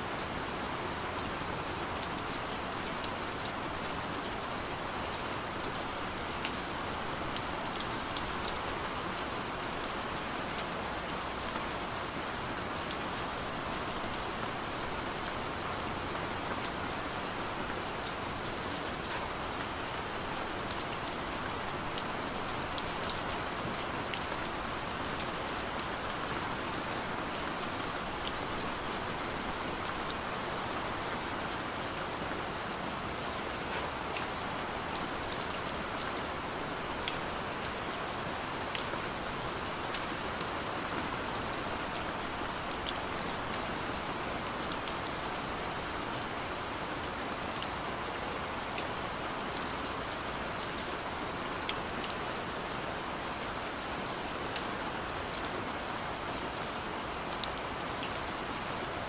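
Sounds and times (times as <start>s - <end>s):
gentle rain hissing: 0.0s - 59.0s.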